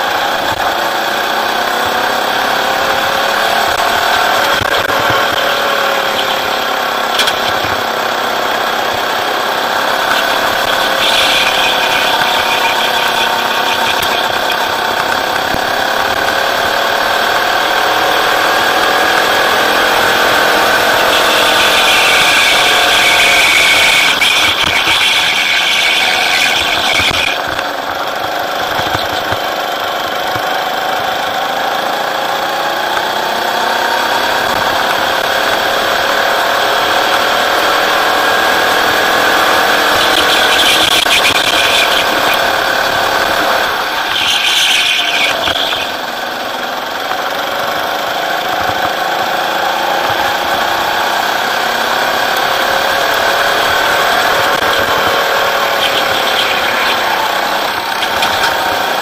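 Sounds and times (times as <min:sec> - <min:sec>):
go-kart engine: 0:00.0 - 0:59.0.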